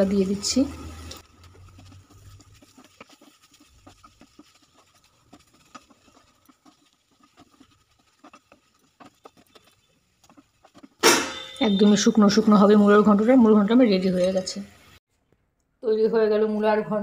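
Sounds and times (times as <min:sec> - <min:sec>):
wooden spatula scraping pan: 0:00.0 - 0:14.5.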